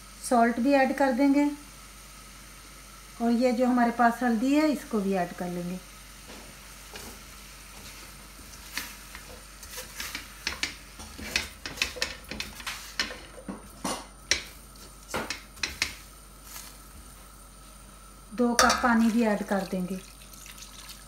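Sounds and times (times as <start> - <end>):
faint sizzle: 0.0 - 21.0.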